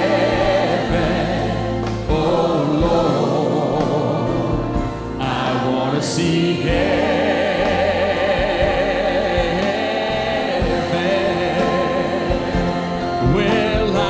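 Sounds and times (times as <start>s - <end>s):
choir singing with vibrato: 0.0s - 14.0s
electric guitar playing: 0.0s - 14.0s
keyboard playing: 0.0s - 14.0s.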